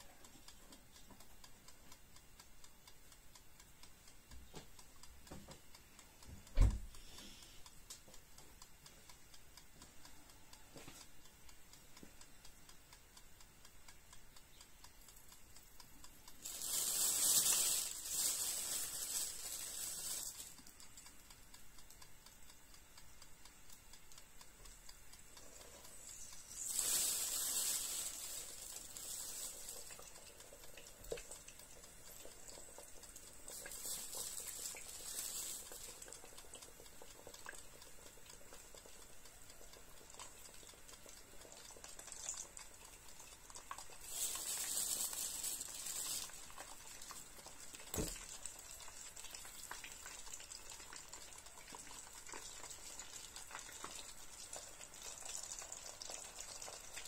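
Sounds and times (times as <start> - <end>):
buns sizzling in oil: 0.0 - 57.0
frying oil hissing: 6.5 - 57.0.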